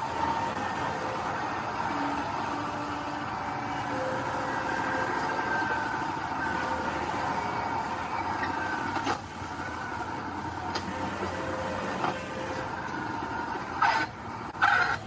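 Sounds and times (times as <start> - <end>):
diesel machinery engine running: 0.0 - 15.0.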